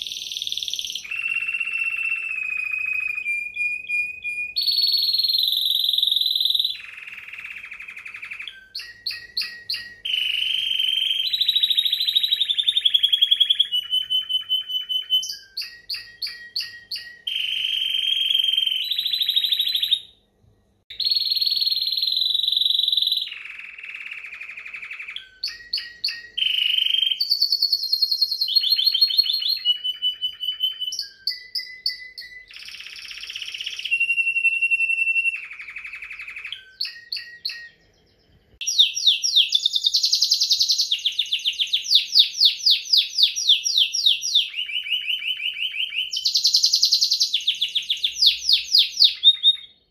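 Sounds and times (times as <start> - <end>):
canary singing trills: 0.0 - 20.3, 20.9 - 49.9.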